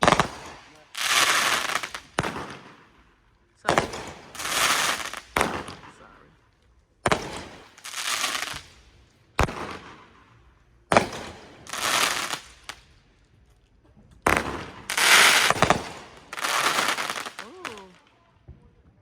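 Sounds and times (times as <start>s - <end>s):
fireworks bangs: 0.0s - 6.3s, 7.0s - 12.9s, 14.2s - 19.0s
fireworks hissing crackle: 0.0s - 13.0s, 14.2s - 18.2s.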